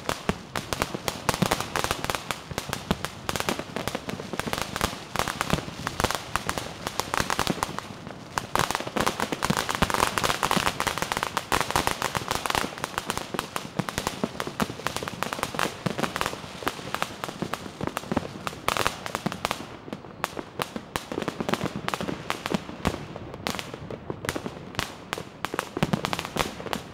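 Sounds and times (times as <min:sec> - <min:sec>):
firecrackers cracking: 0:00.0 - 0:26.9.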